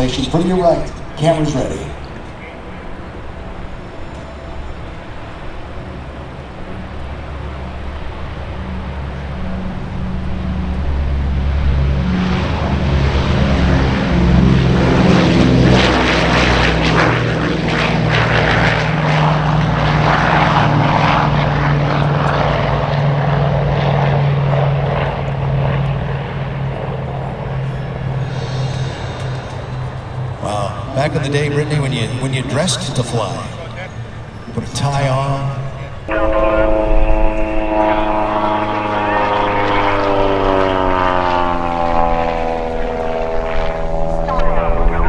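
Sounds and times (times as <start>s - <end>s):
propeller aircraft engines droning: 0.0s - 45.0s.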